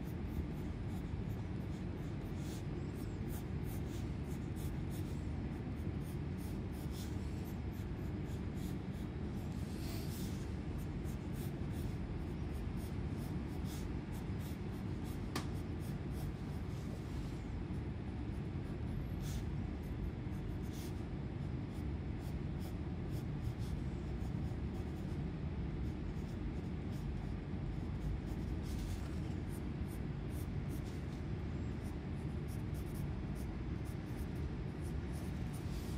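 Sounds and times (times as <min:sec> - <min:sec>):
pencil scratching on paper: 0:00.0 - 0:21.1, 0:21.7 - 0:35.9
steady low hum: 0:00.0 - 0:35.9.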